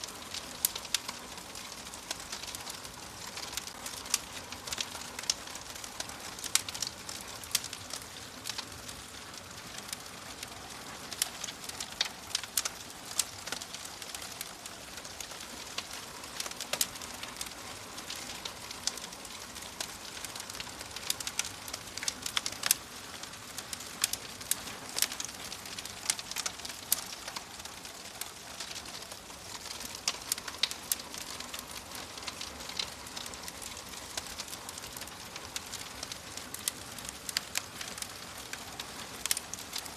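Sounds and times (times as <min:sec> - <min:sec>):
fire crackling and snapping: 0:00.0 - 0:39.9
fire soft hiss: 0:00.0 - 0:39.9.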